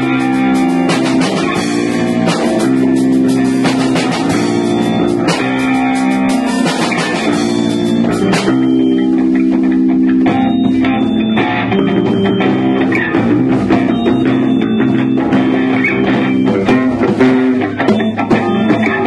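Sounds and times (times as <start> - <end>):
bass guitar: 0.0 - 19.0
drum kit: 0.0 - 19.0
electric guitar sustained notes: 0.0 - 19.0.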